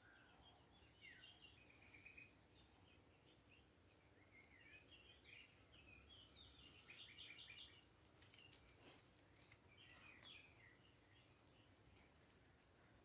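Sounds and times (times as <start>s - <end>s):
faint songbird chirping: 0.0s - 13.0s.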